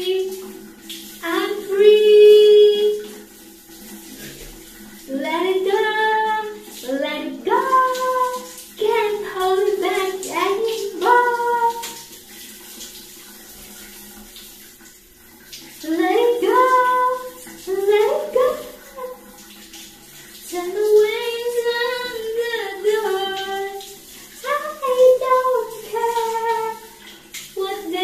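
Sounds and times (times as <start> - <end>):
shower spray running: 0.0 - 28.0.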